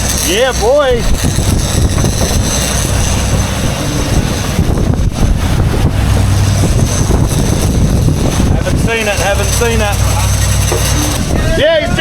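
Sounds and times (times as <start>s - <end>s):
boat motor running: 0.0s - 12.0s
water rushing past hull: 0.0s - 12.0s
wind rumbling on microphone: 0.0s - 12.0s.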